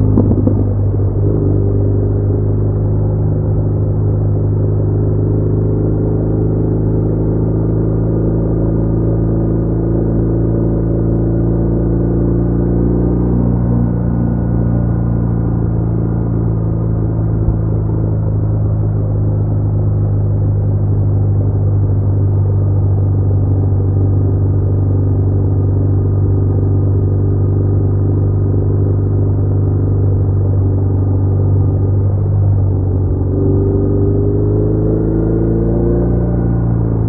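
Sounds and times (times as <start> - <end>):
motorcycle engine droning: 0.0 - 37.0.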